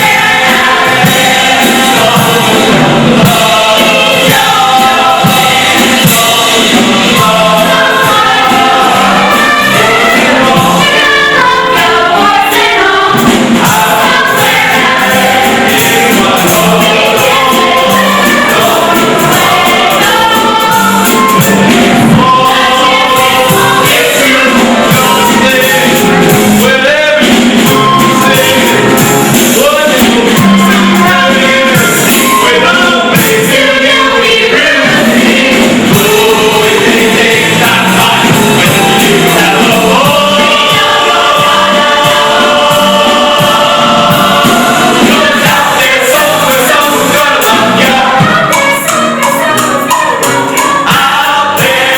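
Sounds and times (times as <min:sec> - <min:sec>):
chorus singing with accompaniment: 0:00.0 - 0:51.9.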